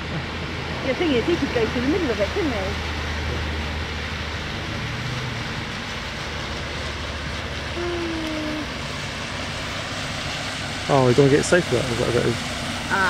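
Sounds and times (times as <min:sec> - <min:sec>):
low engine hum: 0:00.0 - 0:13.0
water washing: 0:00.0 - 0:13.0.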